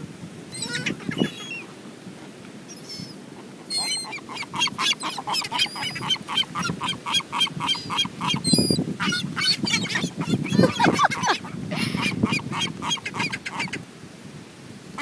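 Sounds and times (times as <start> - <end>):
seagulls squawking: 0.5 - 1.8, 2.8 - 13.8.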